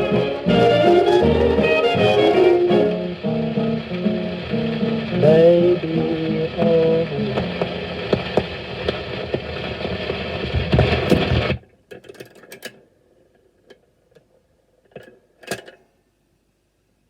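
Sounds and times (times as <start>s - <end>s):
record surface hiss and crackle: 0.0s - 17.0s.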